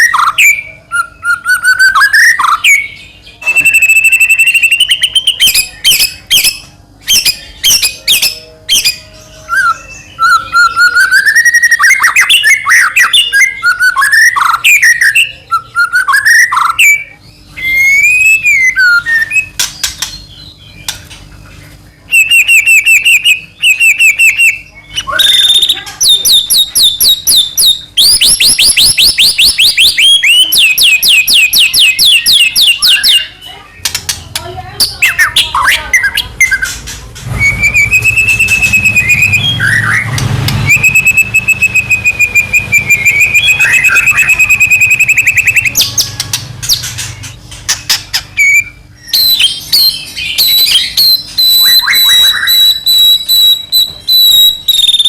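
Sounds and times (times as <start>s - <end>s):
bird singing whistles and trills: 0.0s - 21.0s, 22.0s - 34.1s, 34.8s - 55.0s.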